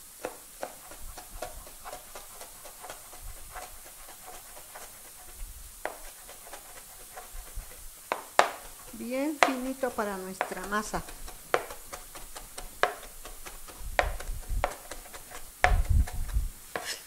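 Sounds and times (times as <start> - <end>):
knife chopping on cutting board: 0.0 - 17.0.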